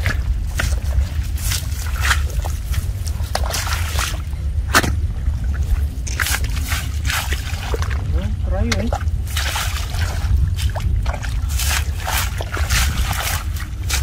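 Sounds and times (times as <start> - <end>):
low rumble: 0.0 - 14.0
muddy water sloshing and splashing: 0.0 - 14.0
wet squelches: 0.0 - 14.0.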